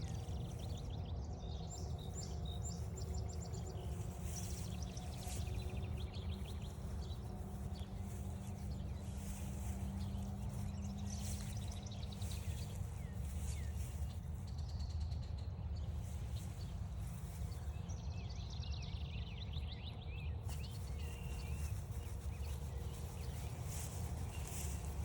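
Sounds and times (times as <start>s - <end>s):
songbirds trilling: 0.0s - 25.0s
steady low rumble: 0.0s - 25.0s.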